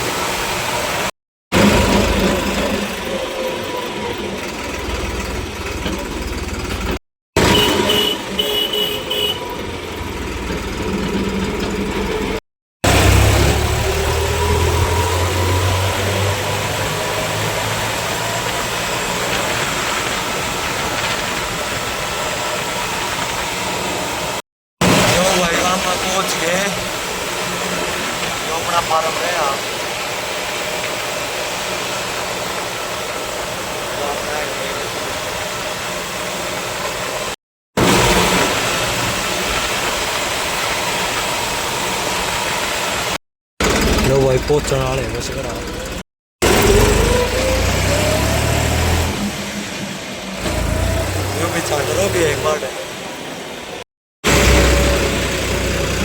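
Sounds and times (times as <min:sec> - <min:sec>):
road and wind noise: 0:00.0 - 0:56.0
tractor diesel engine running: 0:00.0 - 0:56.0.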